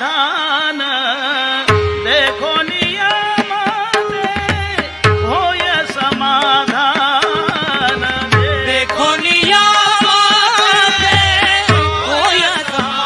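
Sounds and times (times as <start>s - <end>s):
tabla playing busy rhythm: 0.1s - 13.0s.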